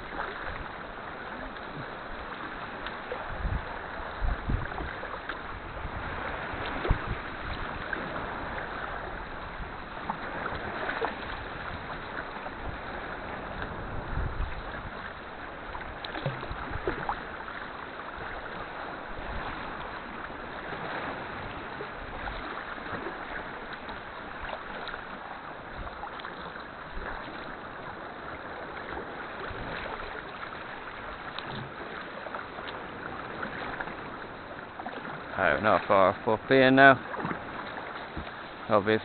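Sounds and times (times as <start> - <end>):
water splashing around kayak: 0.0 - 39.0.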